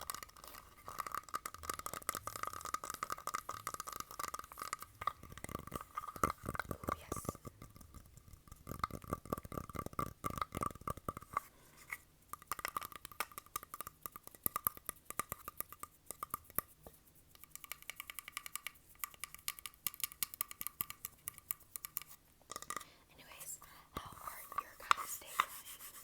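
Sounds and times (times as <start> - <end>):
fast tapping on hard object: 0.0 - 11.5, 12.3 - 22.9.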